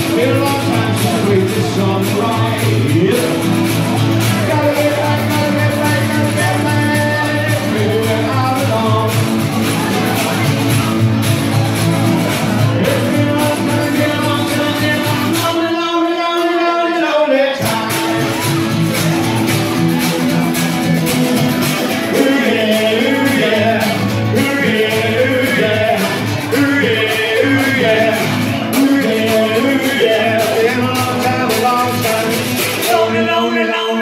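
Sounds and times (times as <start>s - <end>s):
live rock and roll band: 0.0s - 34.0s
man singing: 0.0s - 34.0s.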